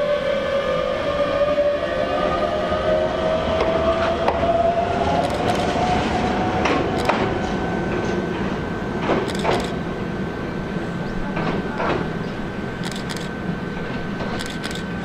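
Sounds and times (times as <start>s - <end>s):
electric train rumble: 0.0s - 15.0s
train whine: 0.0s - 15.0s.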